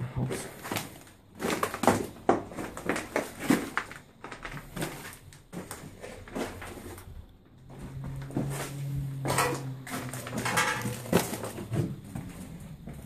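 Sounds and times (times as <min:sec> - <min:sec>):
footsteps crunching on rubble: 0:00.1 - 0:13.0.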